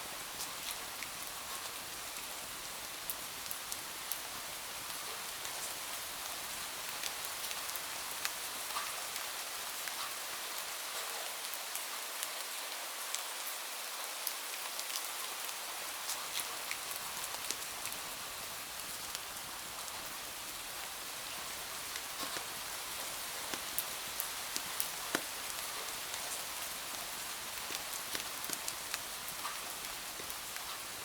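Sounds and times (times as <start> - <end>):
rain hiss: 0.0 - 31.0.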